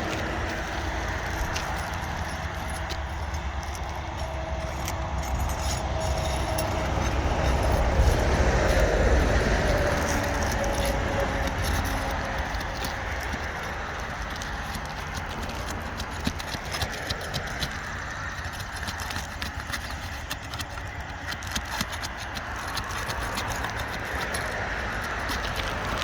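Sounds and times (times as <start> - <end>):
clicks and scrapes on roof shingles: 0.0 - 26.0
outdoor rumble: 0.0 - 26.0.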